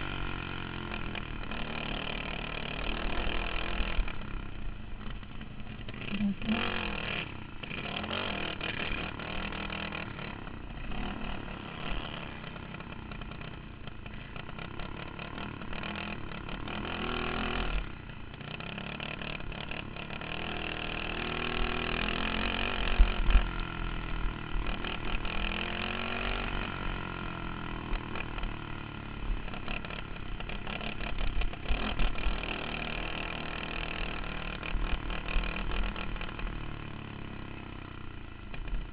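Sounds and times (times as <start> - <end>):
kart engine at racing speed: 0.0 - 38.9.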